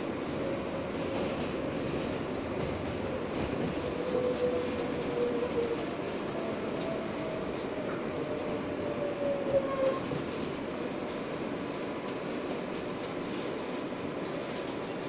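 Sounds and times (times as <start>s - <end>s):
subway car wheels rumbling on rail: 0.0s - 15.0s.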